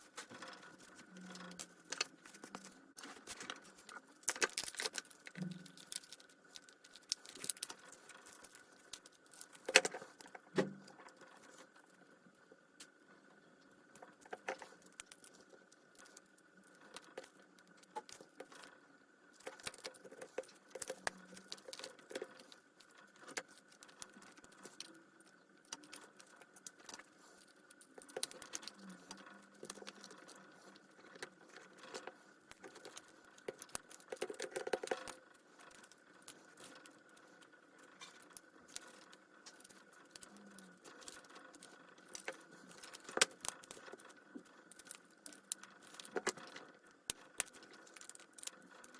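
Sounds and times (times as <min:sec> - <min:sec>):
faint steady tone: 0:00.0 - 0:48.9
small hard parts clicking: 0:00.0 - 0:48.9.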